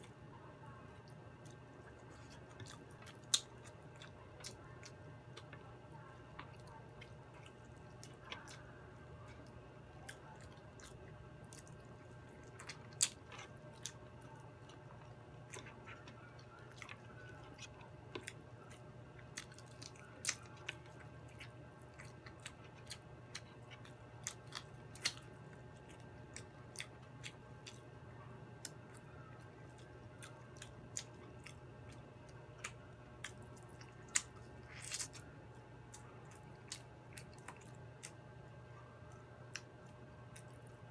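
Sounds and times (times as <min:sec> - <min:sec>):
steady low hum: 0:00.0 - 0:40.9
person chewing food: 0:01.0 - 0:40.9.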